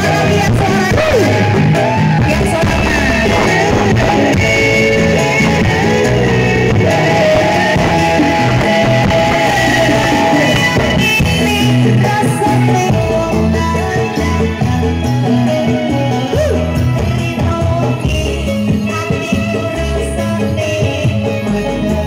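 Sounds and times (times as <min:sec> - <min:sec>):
band playing a pop song: 0:00.0 - 0:22.0
person singing: 0:00.0 - 0:22.0.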